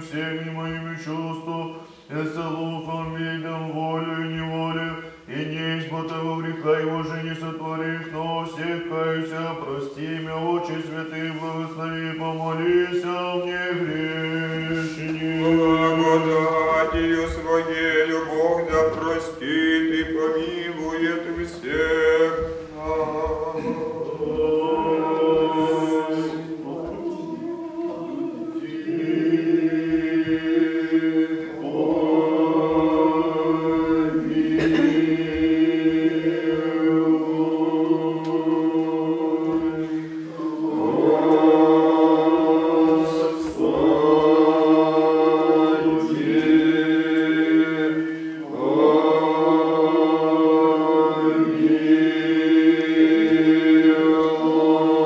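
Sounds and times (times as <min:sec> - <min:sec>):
church choir singing chant: 0:00.0 - 0:55.0.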